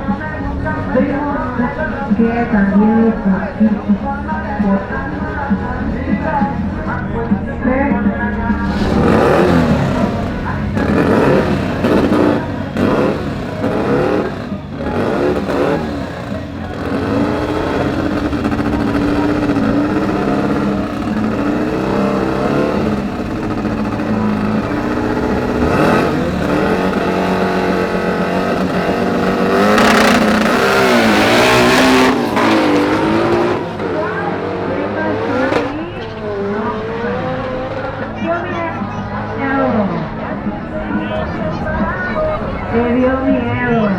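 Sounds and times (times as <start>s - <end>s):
race car engines revving: 7.9s - 43.2s.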